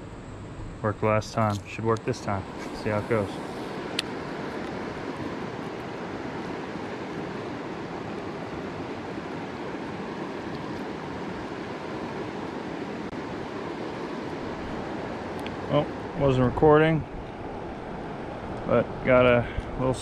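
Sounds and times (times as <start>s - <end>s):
river water rushing over rocks: 2.4s - 19.1s.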